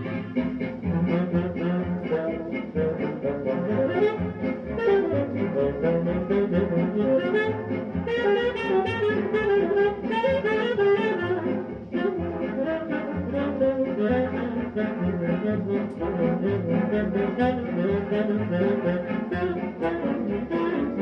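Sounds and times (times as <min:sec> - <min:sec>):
swing band on old record: 0:00.0 - 0:21.0.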